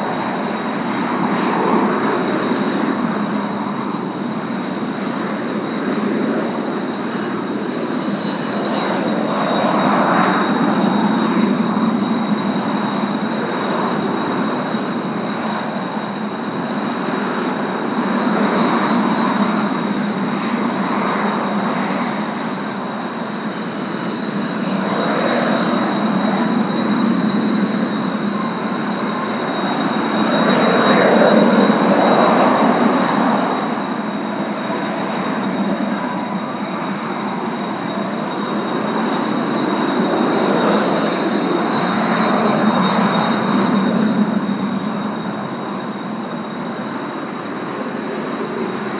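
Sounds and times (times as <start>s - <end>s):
jet engine rush: 0.0s - 48.9s
turbine whistle: 0.0s - 48.9s.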